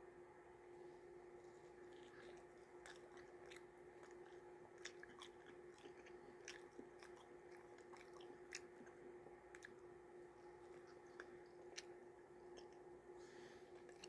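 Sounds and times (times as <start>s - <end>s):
faint chewing: 0.8s - 14.0s.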